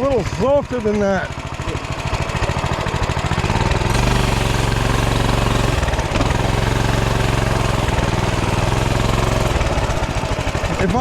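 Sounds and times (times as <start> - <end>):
mini bike engine running: 0.0 - 11.0.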